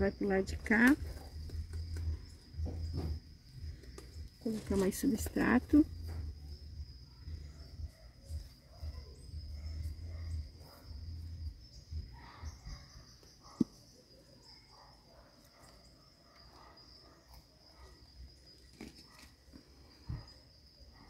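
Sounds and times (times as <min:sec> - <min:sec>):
cricket trilling: 0:00.0 - 0:21.0.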